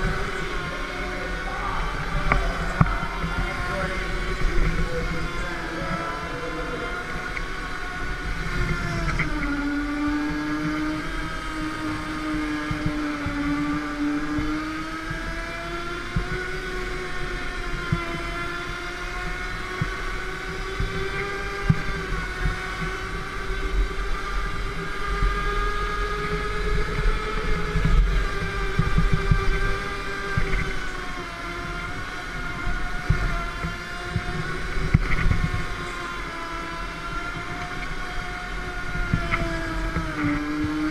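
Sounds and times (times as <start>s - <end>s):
go-kart motor whine: 0.0s - 40.9s.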